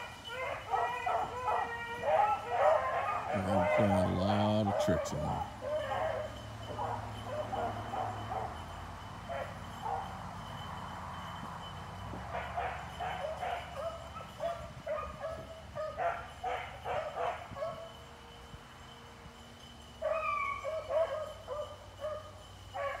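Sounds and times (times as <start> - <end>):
hounds baying: 0.0 - 19.0, 19.7 - 23.0.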